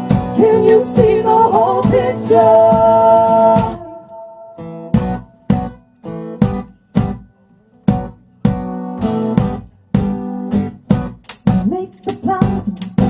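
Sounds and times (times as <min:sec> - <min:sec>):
acoustic guitar strumming chords: 0:00.0 - 0:11.8.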